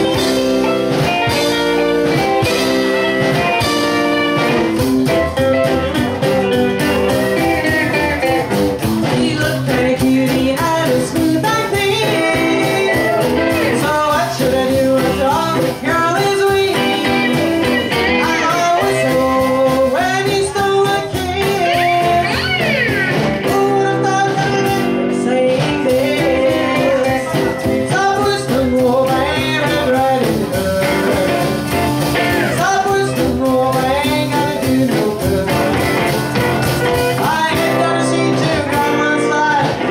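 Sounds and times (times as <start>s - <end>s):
drums: 0.0s - 39.9s
electric guitar: 0.0s - 39.9s
upright bass: 0.0s - 39.9s
woman singing: 5.9s - 36.2s, 37.0s - 39.9s.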